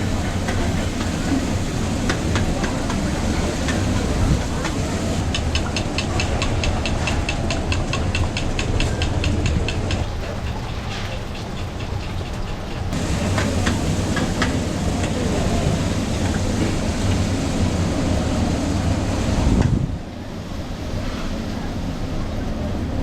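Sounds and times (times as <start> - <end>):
busy kitchen rumble and hiss: 0.0 - 23.0.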